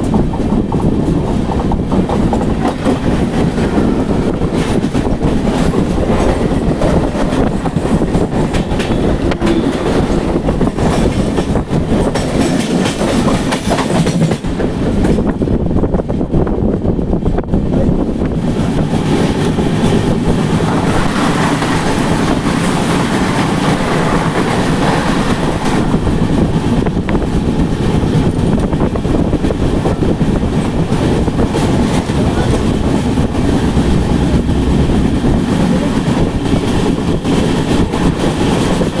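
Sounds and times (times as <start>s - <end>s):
wheels clattering over rail joints: 0.0s - 15.3s, 18.6s - 39.0s
passenger train rumbling: 0.0s - 39.0s.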